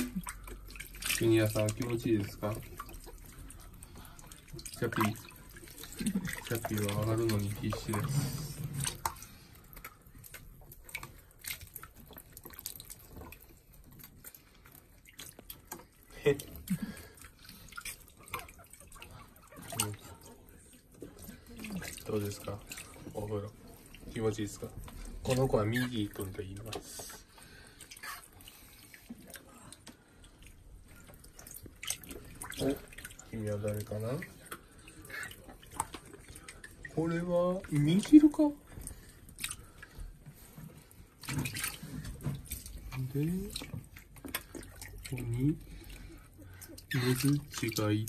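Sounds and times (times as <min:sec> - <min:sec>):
rats scrabbling at basin: 0:00.0 - 0:48.0
water splashing and dripping: 0:00.0 - 0:48.0.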